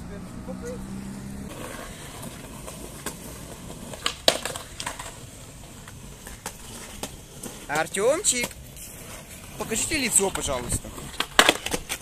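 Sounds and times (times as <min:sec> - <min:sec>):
bike rolling on concrete: 0:00.0 - 0:12.0.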